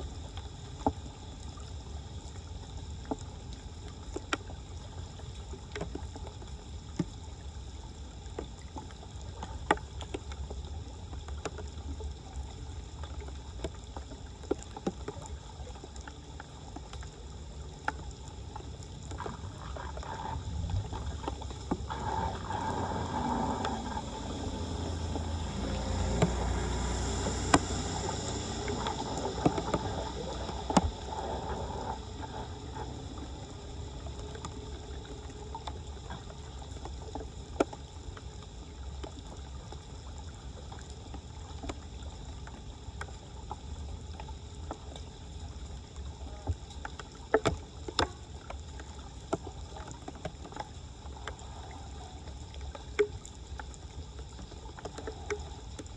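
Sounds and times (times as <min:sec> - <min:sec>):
floodwater sloshing and splashing: 0:00.0 - 0:55.9.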